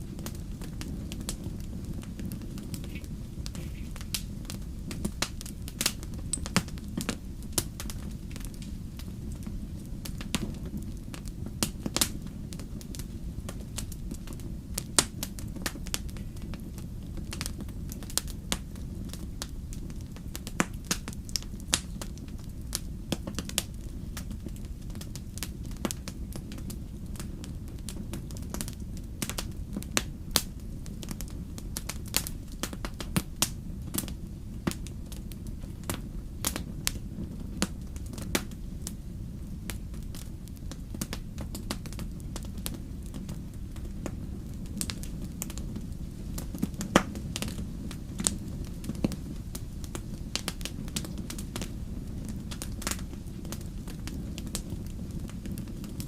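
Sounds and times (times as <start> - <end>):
sharp pops of fire: 0.0 - 56.0
steady low rumble: 0.0 - 56.0
wood fire crackling: 0.0 - 56.0.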